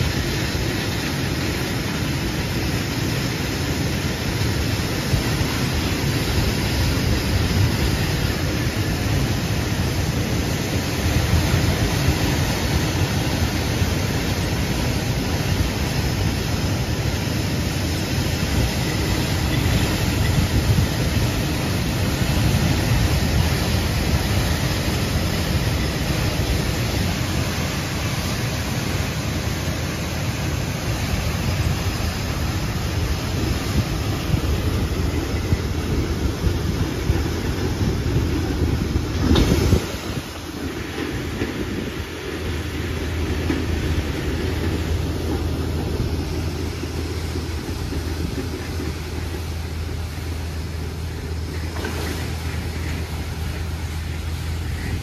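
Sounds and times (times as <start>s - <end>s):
steel wheels rolling on rails: 0.0s - 55.0s.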